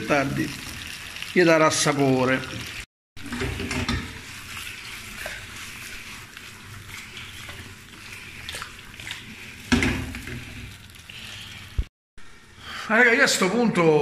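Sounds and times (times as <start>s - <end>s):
potatoes sizzling in oil: 0.0s - 12.4s.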